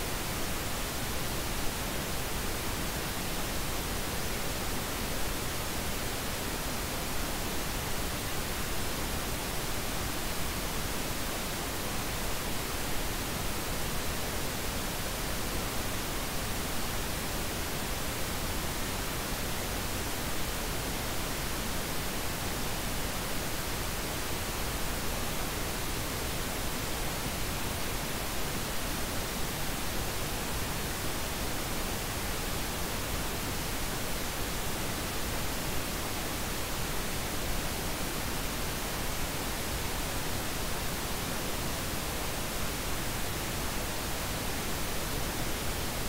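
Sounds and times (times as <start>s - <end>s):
steady synthetic noise hiss: 0.0s - 46.0s.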